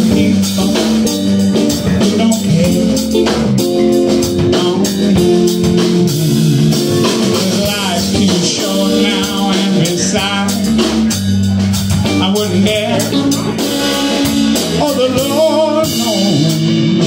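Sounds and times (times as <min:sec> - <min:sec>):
drum kit: 0:00.0 - 0:17.0
electric bass: 0:00.0 - 0:17.0
electric guitar: 0:00.0 - 0:17.0.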